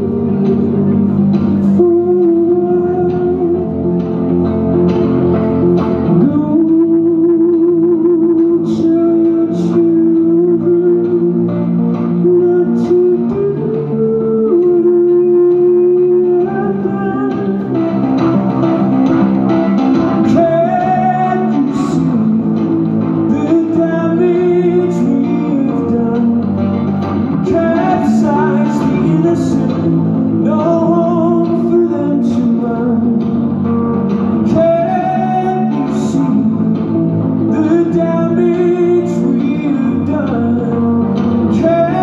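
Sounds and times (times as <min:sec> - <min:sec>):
man singing: 0:00.0 - 0:18.4, 0:19.8 - 0:42.0
electric guitar: 0:00.0 - 0:42.0.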